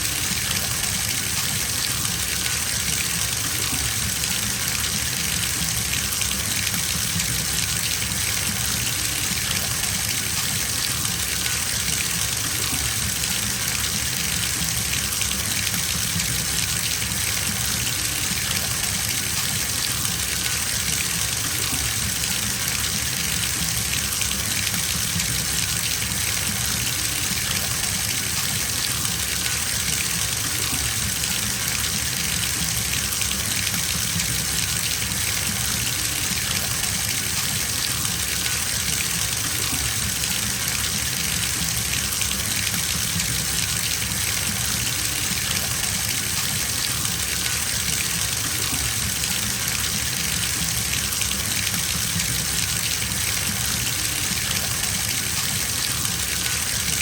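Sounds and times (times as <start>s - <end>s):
water gushing into bathtub: 0.0s - 57.0s.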